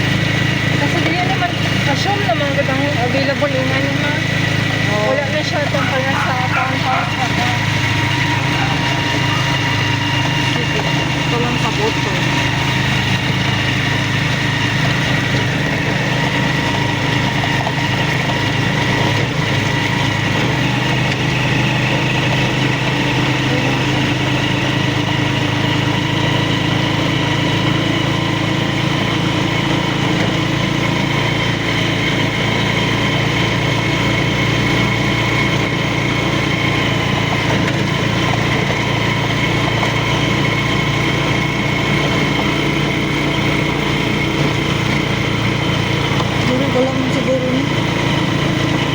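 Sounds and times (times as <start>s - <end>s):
vehicle engine humming with whine: 0.0s - 48.9s.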